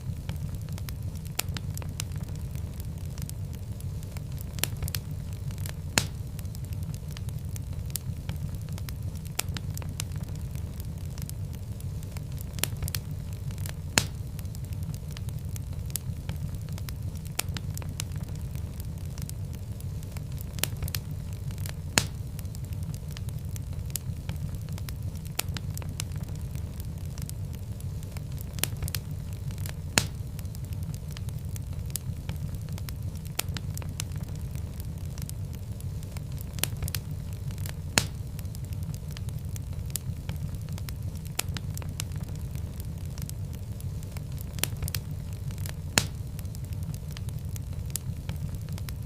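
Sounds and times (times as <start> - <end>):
fire flames rumbling: 0.0 - 49.0
wood fire crackling and popping: 0.0 - 49.0.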